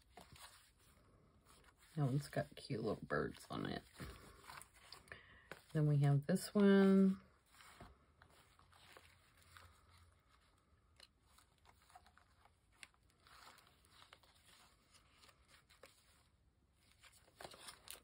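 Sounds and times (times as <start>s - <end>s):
paper rustling: 0.0s - 18.0s.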